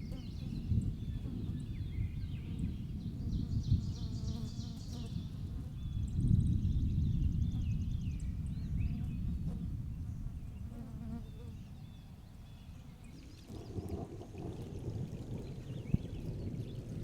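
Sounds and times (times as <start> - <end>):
low rumble of thunder: 0.0 - 17.0.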